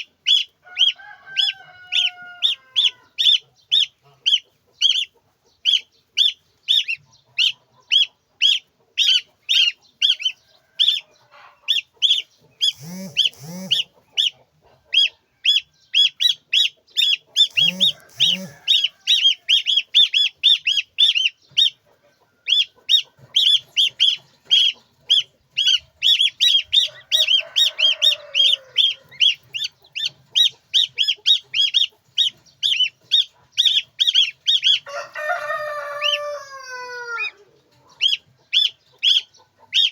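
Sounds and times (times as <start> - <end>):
adult bird calls: 0.0 - 39.9
chicks peeping: 0.0 - 39.9.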